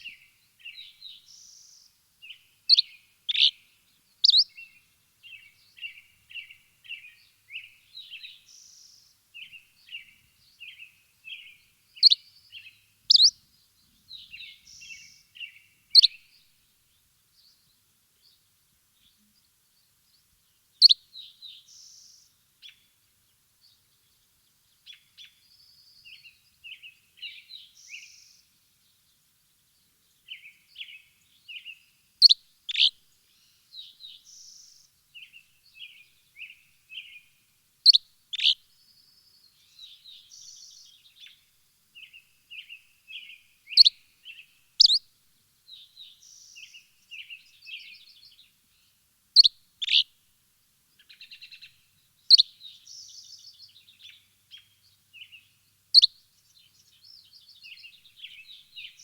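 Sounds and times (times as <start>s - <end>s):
birds softly twittering: 0.0s - 50.1s, 50.9s - 59.0s.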